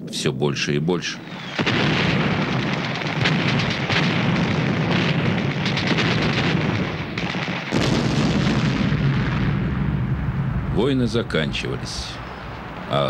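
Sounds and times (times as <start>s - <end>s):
artillery guns firing: 1.2s - 13.0s.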